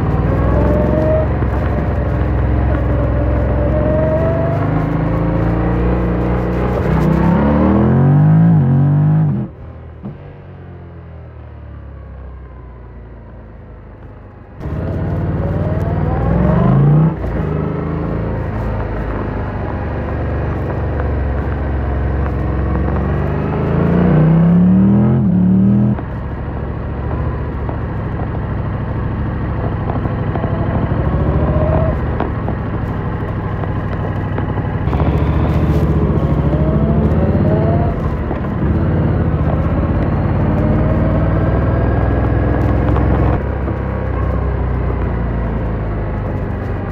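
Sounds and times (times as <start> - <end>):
motorcycle engine revving: 0.0 - 9.6, 14.6 - 26.2, 28.9 - 46.9.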